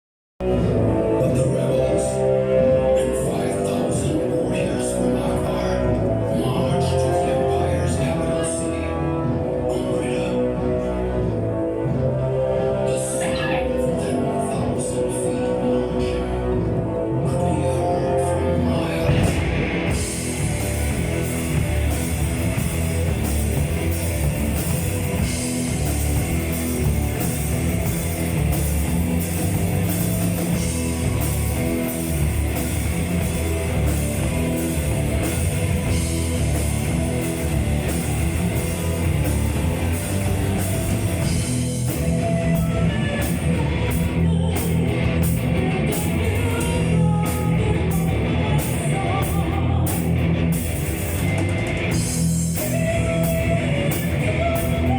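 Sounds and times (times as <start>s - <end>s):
heavy metal band playing: 0.4s - 54.9s.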